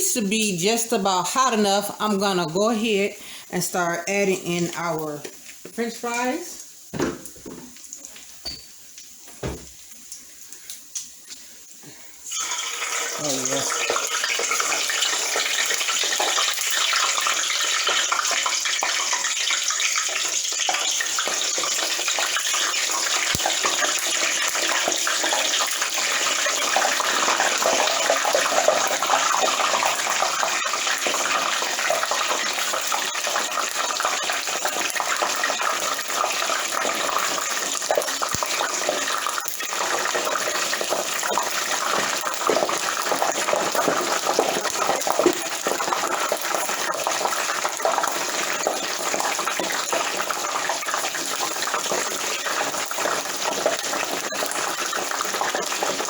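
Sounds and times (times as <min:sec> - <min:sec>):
fries sizzling in oil: 0:00.0 - 0:56.0.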